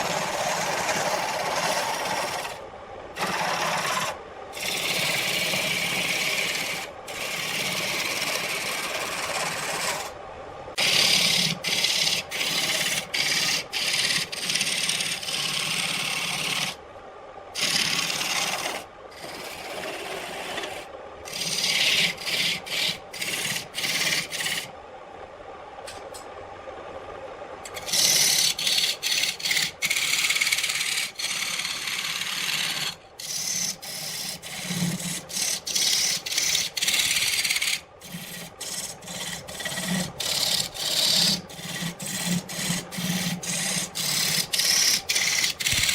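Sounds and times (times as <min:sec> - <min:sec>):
lathe motor hum: 0:00.0 - 0:02.6, 0:03.2 - 0:10.2, 0:10.8 - 0:16.8, 0:17.6 - 0:24.7, 0:27.6 - 0:45.9
tool scraping spinning wood: 0:00.0 - 0:02.6, 0:03.2 - 0:10.2, 0:10.8 - 0:16.8, 0:17.6 - 0:24.7, 0:27.7 - 0:45.9.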